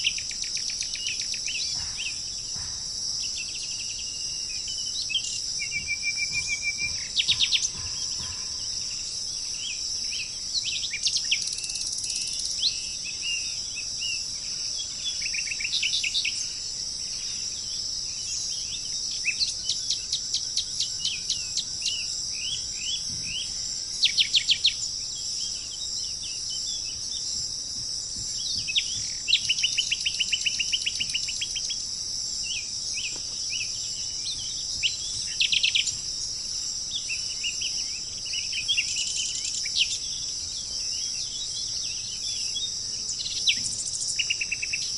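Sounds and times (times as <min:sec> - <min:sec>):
birds calling: 0:00.0 - 0:13.9, 0:14.8 - 0:44.9
high insect drone: 0:00.0 - 0:44.9.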